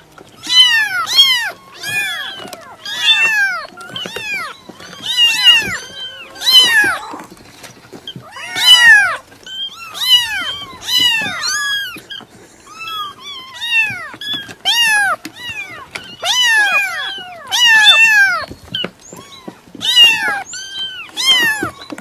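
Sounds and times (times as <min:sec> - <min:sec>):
cat meowing: 0:00.4 - 0:07.4, 0:08.1 - 0:22.0.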